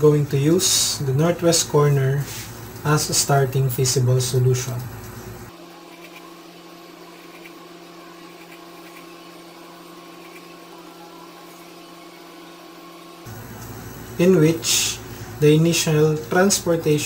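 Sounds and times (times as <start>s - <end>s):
low hum with held tones: 0.0s - 17.0s.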